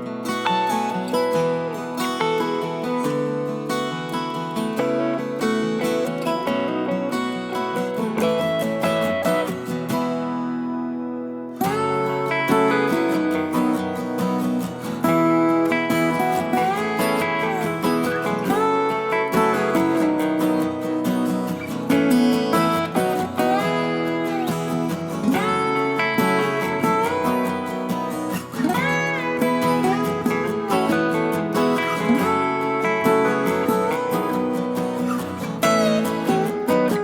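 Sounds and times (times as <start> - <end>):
acoustic guitar music: 0.0 - 37.0.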